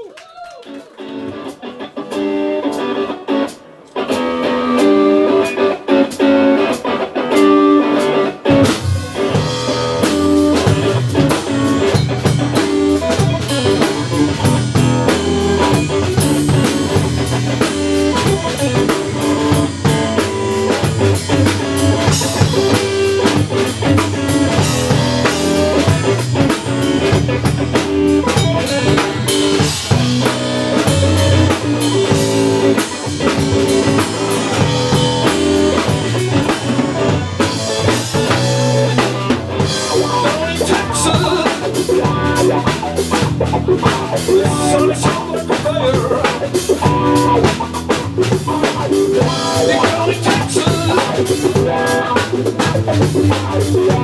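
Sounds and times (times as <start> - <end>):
drums: 0.0 - 54.0
electric guitar: 0.0 - 54.0
bass guitar: 1.0 - 54.0.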